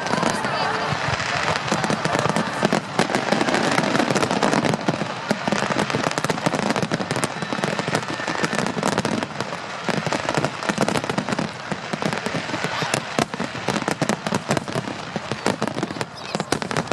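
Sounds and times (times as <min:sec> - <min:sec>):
fireworks crackling: 0:00.0 - 0:16.9.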